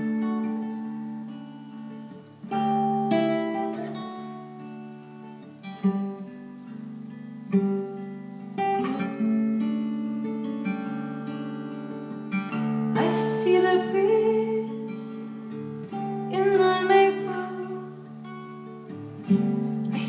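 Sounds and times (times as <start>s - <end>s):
fingerstyle acoustic guitar: 0.0s - 20.0s.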